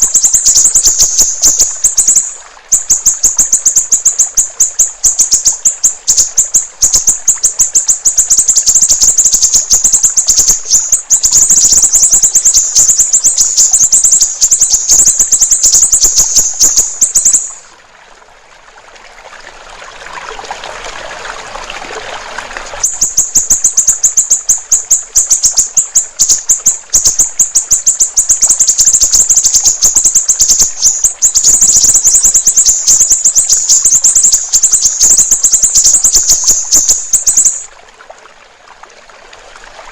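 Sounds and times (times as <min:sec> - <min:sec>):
bird chattering song: 0:00.0 - 0:17.7, 0:22.8 - 0:37.7
trickling water: 0:00.0 - 0:39.9.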